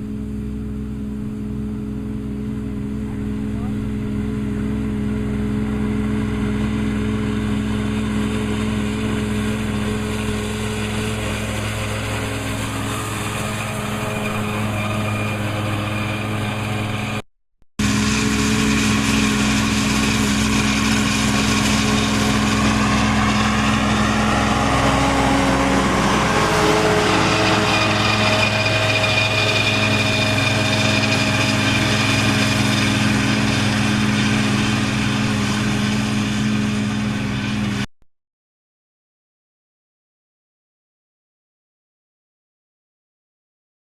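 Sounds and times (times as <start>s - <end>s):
tractor diesel engine running: 0.0s - 17.2s, 17.8s - 37.9s.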